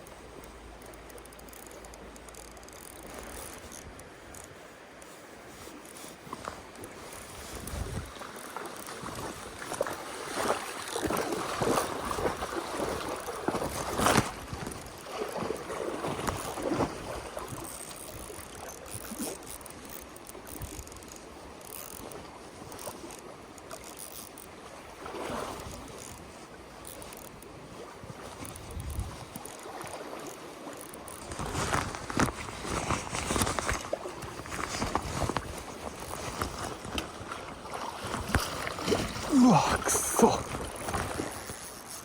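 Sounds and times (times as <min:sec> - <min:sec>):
mountain stream running: 0:00.0 - 0:42.0
water splashing: 0:05.7 - 0:22.0, 0:22.8 - 0:42.0.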